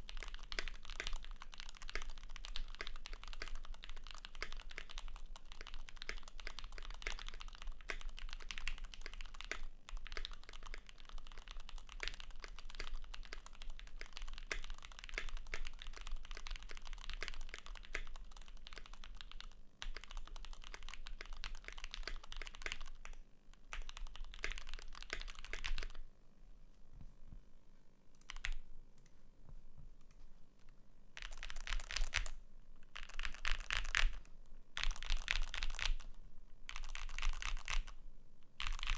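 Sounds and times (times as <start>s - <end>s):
typing on mechanical keyboard: 0.0s - 26.0s, 28.2s - 28.6s, 31.2s - 38.0s, 38.6s - 38.9s.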